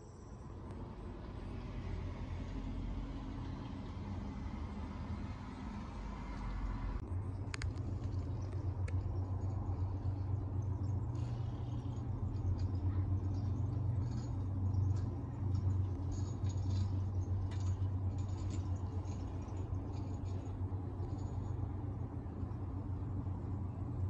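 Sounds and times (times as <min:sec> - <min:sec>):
steady low rumble: 0:00.4 - 0:24.0.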